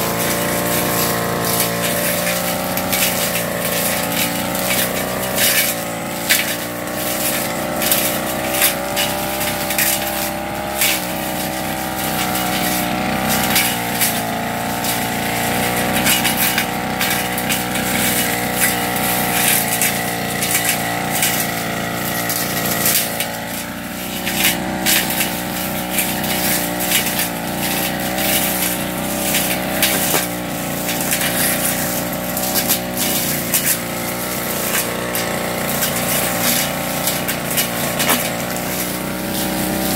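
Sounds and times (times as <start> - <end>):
brush cutter engine running: 0.0 - 39.9
cutting head striking stems: 0.0 - 39.9.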